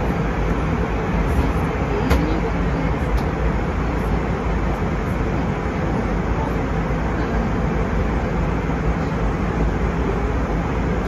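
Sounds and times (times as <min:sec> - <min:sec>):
airplane cabin airflow and engines: 0:00.0 - 0:11.0.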